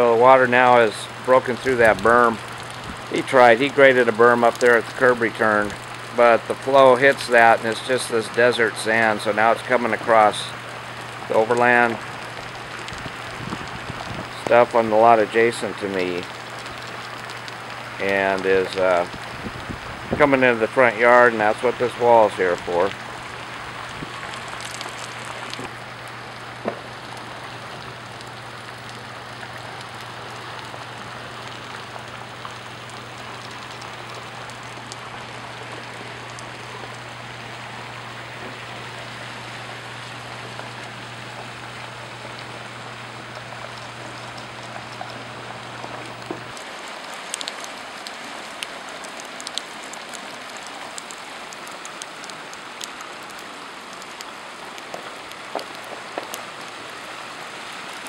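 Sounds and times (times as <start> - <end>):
low steady hum: 0.0 - 58.0
water running across a street: 0.0 - 58.0.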